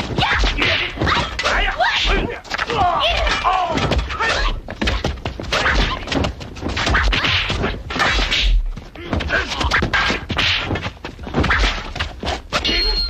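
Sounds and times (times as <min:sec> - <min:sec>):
wooden staff strikes and thuds: 0:00.0 - 0:13.0.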